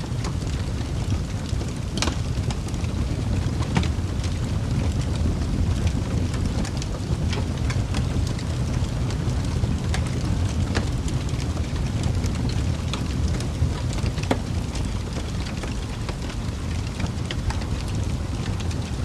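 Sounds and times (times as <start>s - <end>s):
fire crackling and popping: 0.0s - 19.0s
low rumble of flame: 0.0s - 19.0s.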